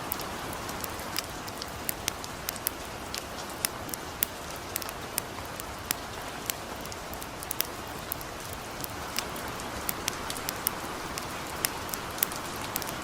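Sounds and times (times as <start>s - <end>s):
campfire crackling: 0.0s - 13.0s
gentle rain falling: 0.0s - 13.0s.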